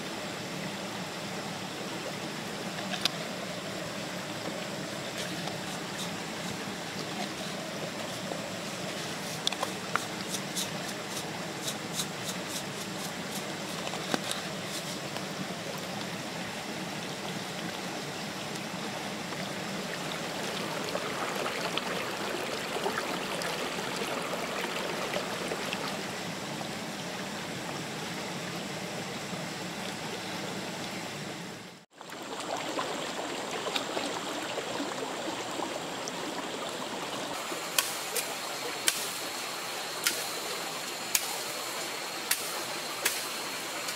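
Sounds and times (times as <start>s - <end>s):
rocky stream flowing: 0.0s - 43.9s.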